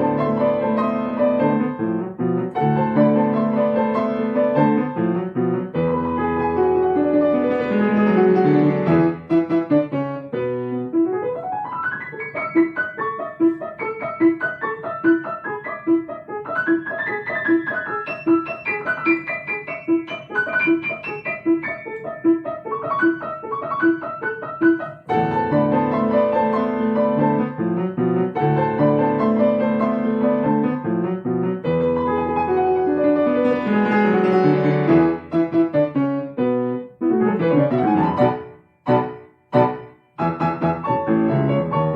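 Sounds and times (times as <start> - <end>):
solo piano: 0.0 - 41.9.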